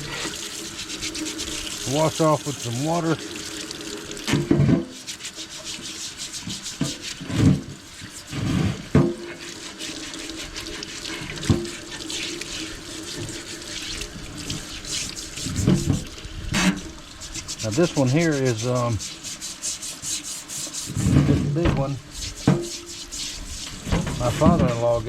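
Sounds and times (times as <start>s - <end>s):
running water splashing: 0.0s - 25.0s.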